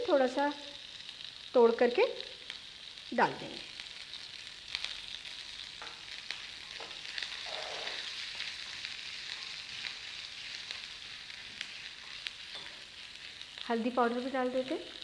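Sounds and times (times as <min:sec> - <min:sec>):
hot oil sizzling and spitting: 0:00.0 - 0:15.0.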